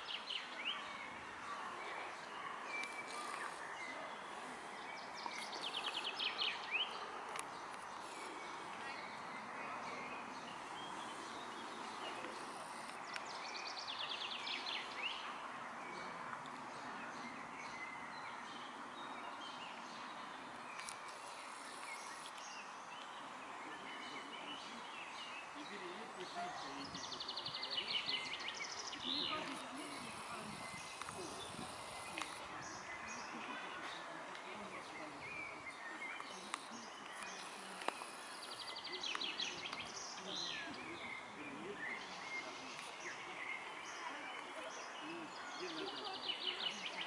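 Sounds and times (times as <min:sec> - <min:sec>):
outdoor background hiss: 0:00.0 - 0:47.0.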